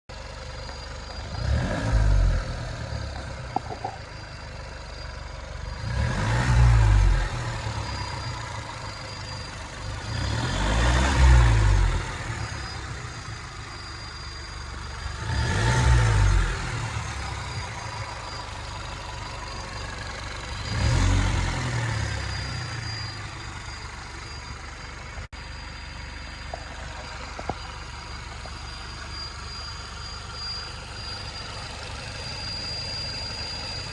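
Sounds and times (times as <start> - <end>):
car engine idling and revving: 0.0 - 33.9
high-pitched engine whine: 0.1 - 33.9.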